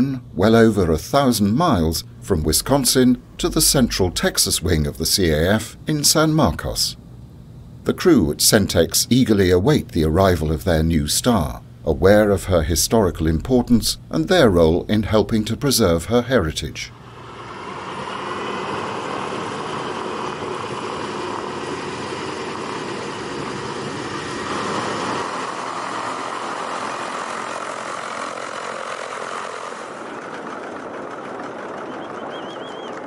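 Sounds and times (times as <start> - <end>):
radial aircraft engines idling: 0.0 - 33.0.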